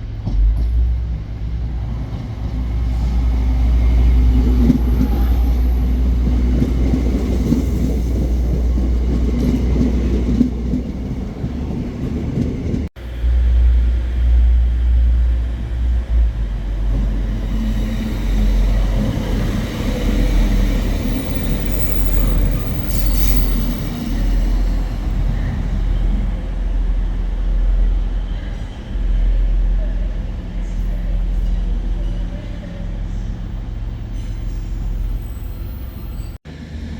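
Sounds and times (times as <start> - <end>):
train rumbling: 0.0 - 36.9.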